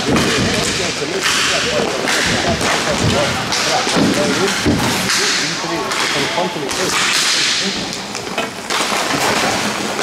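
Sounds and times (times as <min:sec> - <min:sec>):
distant players' voices: 0:00.0 - 0:09.9.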